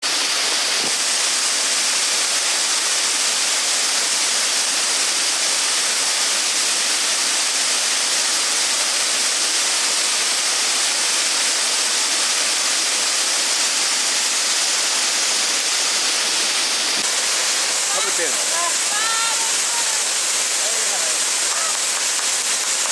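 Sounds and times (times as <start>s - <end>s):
waterfall rushing hiss: 0.0s - 22.9s.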